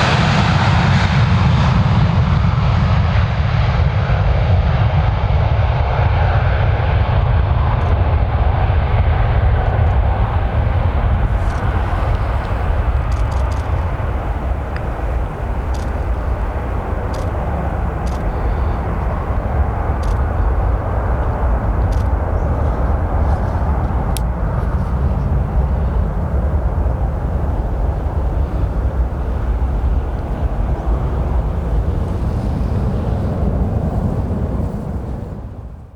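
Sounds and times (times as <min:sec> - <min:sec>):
jet engines rumbling at take-off: 0:00.0 - 0:35.9.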